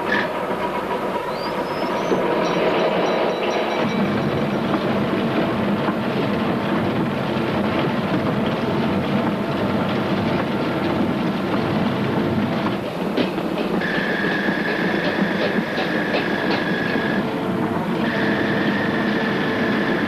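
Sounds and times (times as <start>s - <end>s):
mine machinery rattling and clattering: 0.0s - 20.0s.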